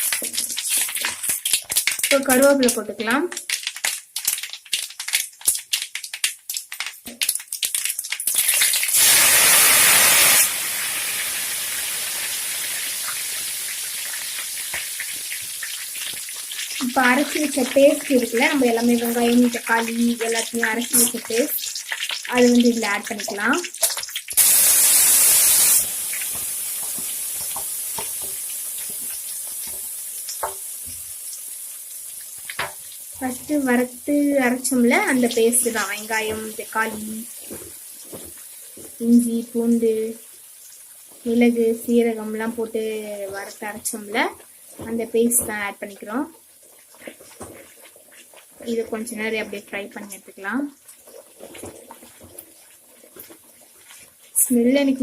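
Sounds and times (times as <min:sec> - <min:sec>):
seeds crackling in hot oil: 0:00.0 - 0:55.0.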